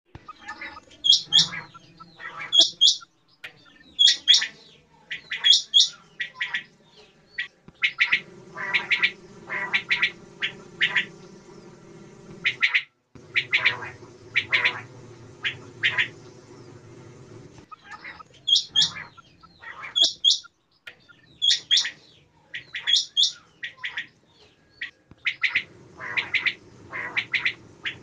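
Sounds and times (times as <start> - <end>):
quail calling: 0.1 - 6.7, 7.4 - 11.3, 12.3 - 16.3, 17.6 - 24.2, 24.8 - 28.0
steady low hum: 0.1 - 23.8, 25.1 - 28.0.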